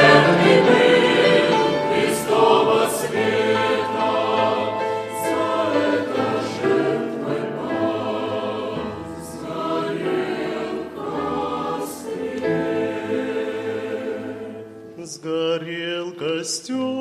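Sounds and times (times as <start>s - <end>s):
choir singing a hymn: 0.0s - 16.4s.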